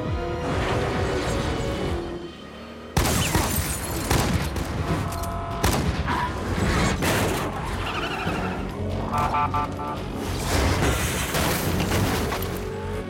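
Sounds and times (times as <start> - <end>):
action film music: 0.0 - 13.0.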